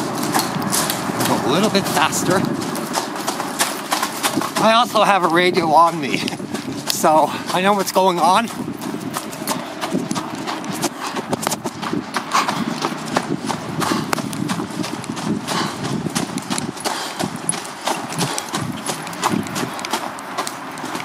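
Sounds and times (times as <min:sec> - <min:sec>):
footsteps crunching on gravel: 0:00.0 - 0:21.0
freight train wheels clattering: 0:00.0 - 0:21.0.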